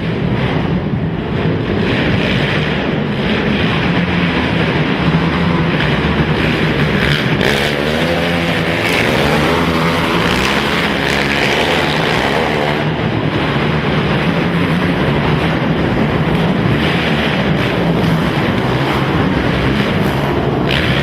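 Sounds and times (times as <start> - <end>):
racing quad engines revving: 0.0 - 21.0
single quad engine revving: 0.0 - 21.0.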